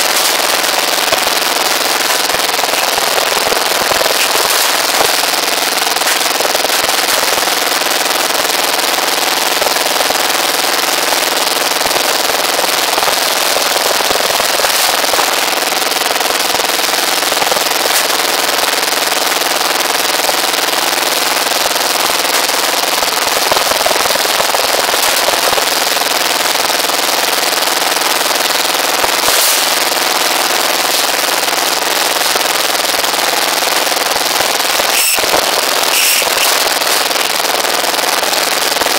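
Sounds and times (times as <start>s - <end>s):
small engine running: 0.0s - 38.7s.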